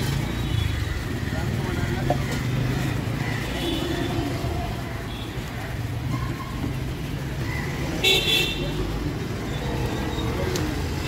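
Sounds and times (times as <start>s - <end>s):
rumble of passing vehicles: 0.0s - 11.0s.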